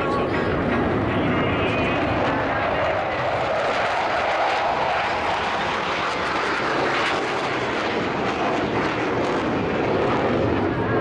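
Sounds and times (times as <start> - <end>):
jet fighters flying past: 0.0 - 11.0.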